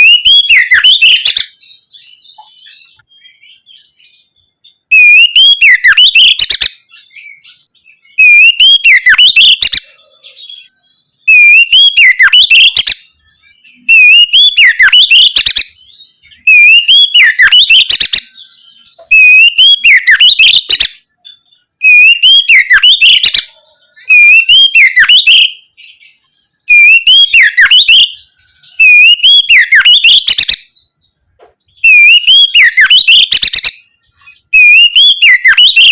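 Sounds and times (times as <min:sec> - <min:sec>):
magpie-robin singing: 0:00.0 - 0:35.9.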